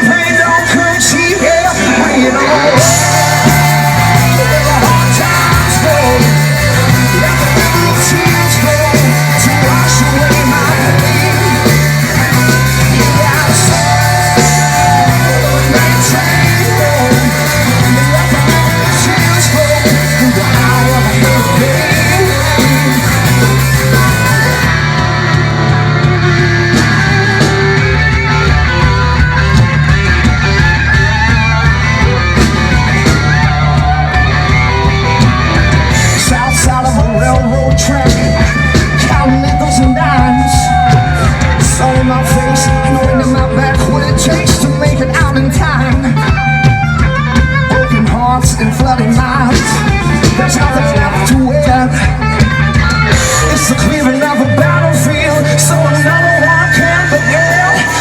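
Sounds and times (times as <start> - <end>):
lead vocal singing: 0.0 - 26.9, 33.1 - 46.7, 47.7 - 58.0
bass guitar: 0.0 - 58.0
drums: 0.0 - 58.0
electric guitar: 0.0 - 58.0.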